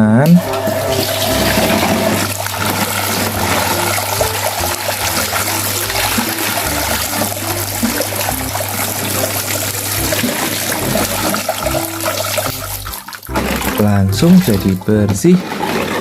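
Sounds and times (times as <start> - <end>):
running water splashing: 0.2 - 16.0.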